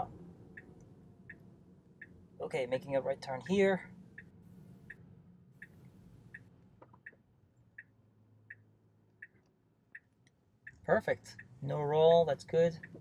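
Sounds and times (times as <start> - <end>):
car turn signal ticking: 0.0 - 2.2, 4.1 - 5.0, 5.6 - 13.0
quiet low hum: 0.0 - 13.0.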